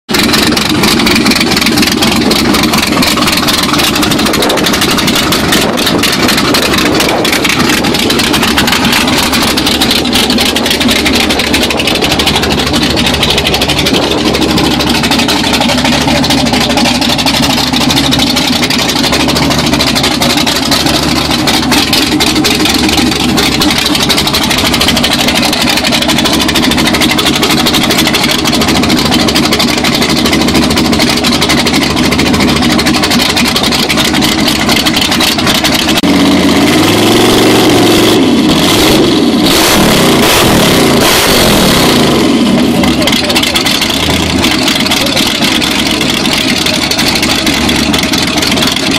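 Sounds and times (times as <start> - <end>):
car engine idling loudly: 0.0 - 48.9.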